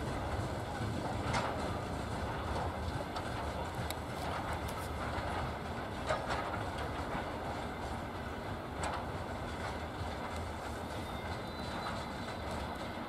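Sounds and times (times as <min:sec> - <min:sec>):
sharp clack of train wheels: 0:00.0 - 0:13.0
train wheels rumbling on rails: 0:00.0 - 0:13.0.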